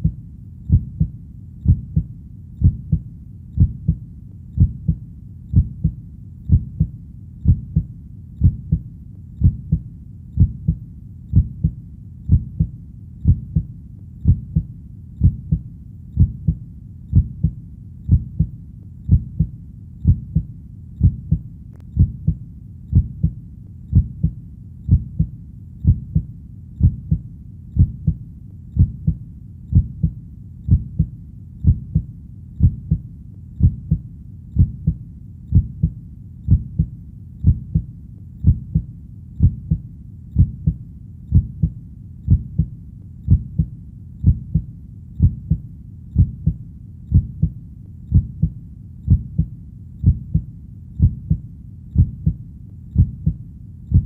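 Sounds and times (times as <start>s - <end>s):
heartbeat double thump: 0.0s - 3.0s, 3.6s - 4.0s, 4.6s - 8.8s, 9.4s - 9.8s, 10.4s - 15.6s, 16.2s - 18.5s, 19.1s - 21.4s, 22.0s - 27.2s, 27.8s - 28.2s, 28.8s - 33.0s, 33.6s - 34.0s, 34.6s - 39.8s, 40.4s - 42.7s, 43.3s - 45.6s, 46.2s - 51.4s, 52.0s - 52.4s, 53.0s - 54.0s.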